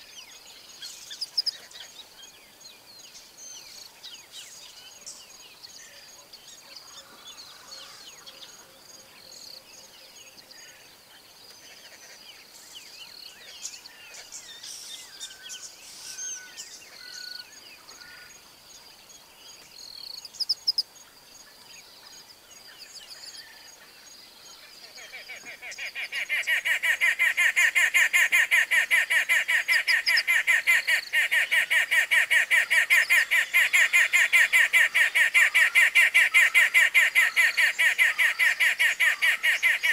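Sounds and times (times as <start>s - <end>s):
faint high insect tone: 0.0s - 39.9s
small birds chirping: 0.0s - 39.9s.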